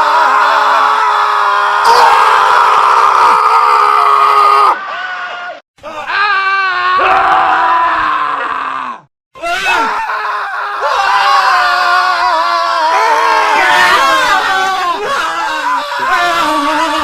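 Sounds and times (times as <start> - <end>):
men screaming: 0.0 - 17.0.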